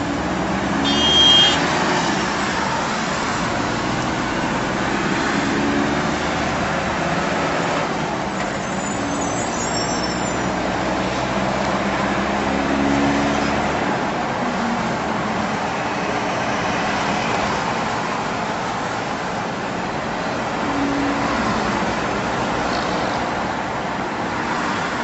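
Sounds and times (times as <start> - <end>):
road and engine noise: 0.0 - 25.0.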